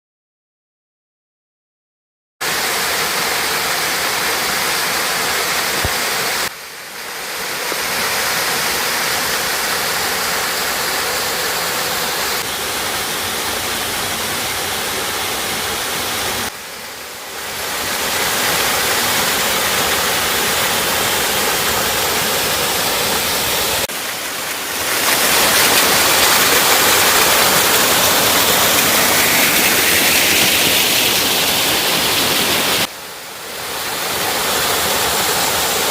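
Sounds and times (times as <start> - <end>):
waterfall roaring: 2.4 - 35.9.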